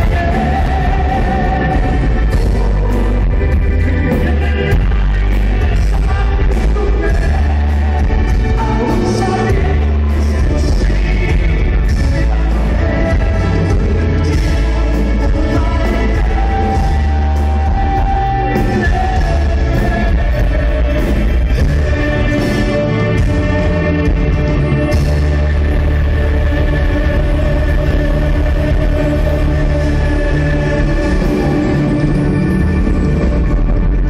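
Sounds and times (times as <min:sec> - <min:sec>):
loud rock music with singing: 0:00.0 - 0:34.0.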